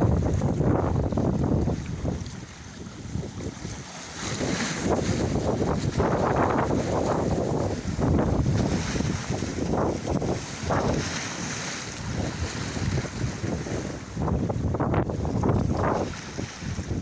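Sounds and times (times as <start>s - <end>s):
choppy sea washing: 0.0s - 17.0s
wind buffeting microphone: 0.0s - 17.0s.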